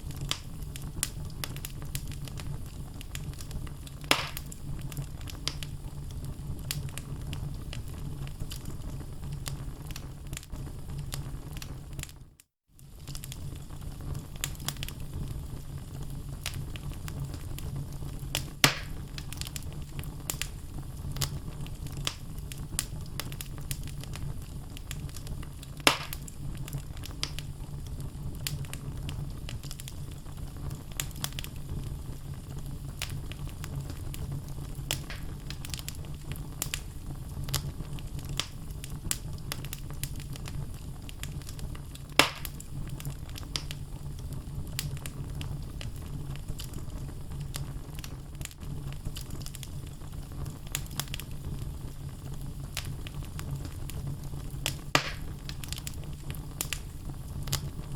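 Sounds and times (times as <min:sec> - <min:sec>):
burning wood popping: 0:00.0 - 0:12.2, 0:12.8 - 0:57.9
wood fire crackling: 0:00.0 - 0:57.9.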